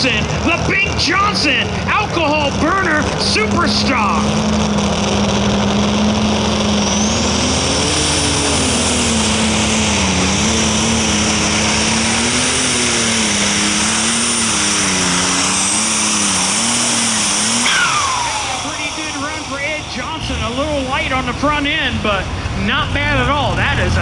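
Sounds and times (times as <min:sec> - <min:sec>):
high whine: 0:00.0 - 0:24.0
tractor engine running hard: 0:00.0 - 0:24.0.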